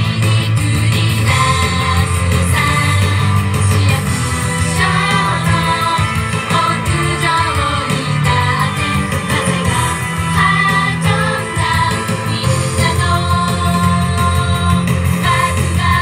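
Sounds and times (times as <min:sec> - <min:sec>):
backing music: 0:00.0 - 0:16.0
women singing pop song: 0:00.0 - 0:16.0.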